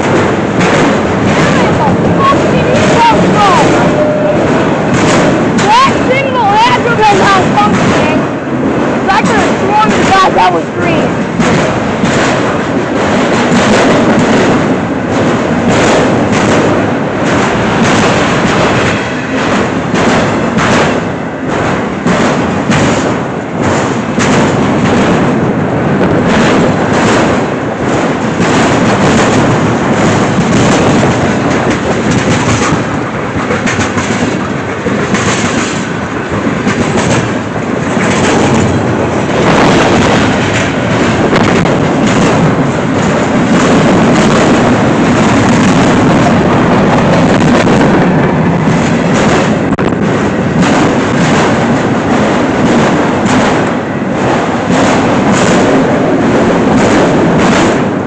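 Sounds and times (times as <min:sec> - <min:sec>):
steel wheels on rails: 0:00.0 - 0:58.0
wheels clicking over rail joints: 0:00.0 - 0:58.0.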